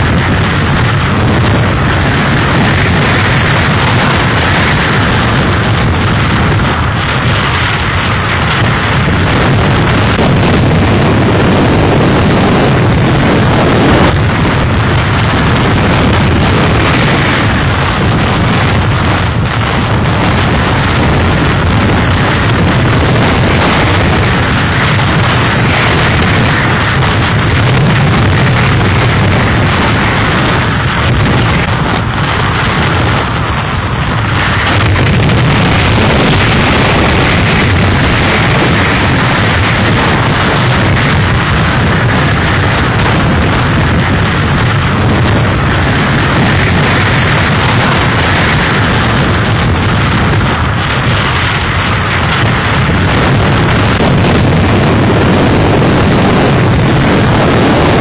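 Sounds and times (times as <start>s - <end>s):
strong wind buffeting microphone: 0.0s - 58.0s.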